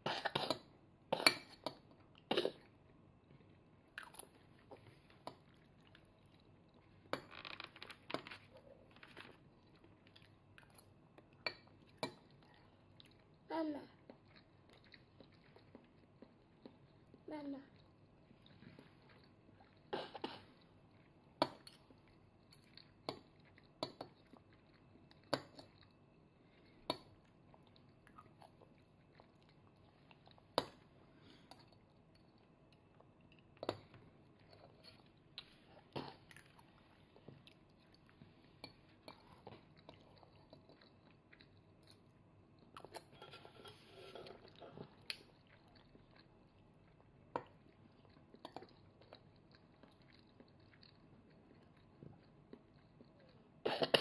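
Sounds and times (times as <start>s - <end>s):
soft chewing: 0.0s - 54.0s.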